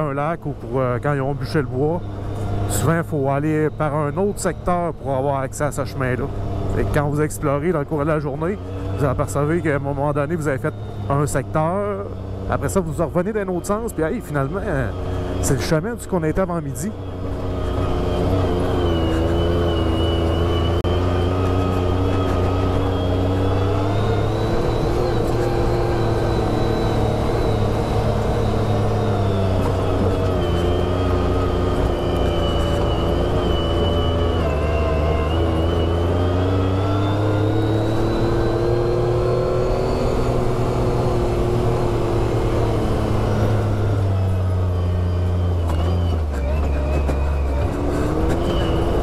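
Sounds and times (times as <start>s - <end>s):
off-road vehicle engine running: 0.0s - 49.0s.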